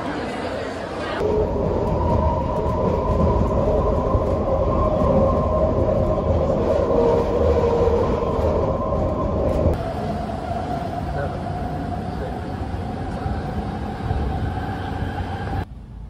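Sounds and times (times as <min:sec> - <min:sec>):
train car rumble: 0:00.0 - 0:16.0.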